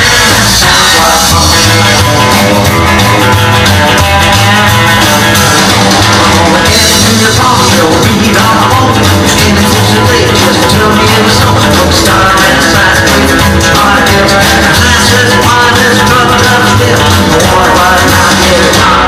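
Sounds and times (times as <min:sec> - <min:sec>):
rock and roll music: 0:00.0 - 0:19.0.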